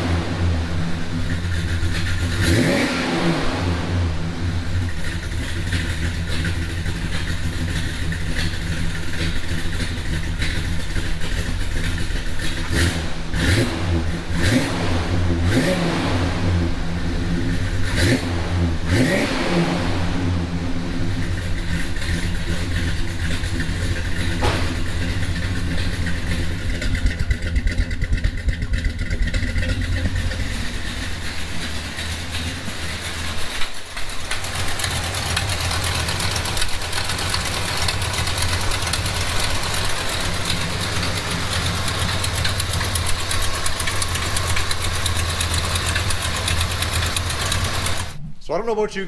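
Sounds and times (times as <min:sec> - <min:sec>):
engine ticking: 0:00.0 - 0:48.2
car engine idling: 0:00.0 - 0:48.9.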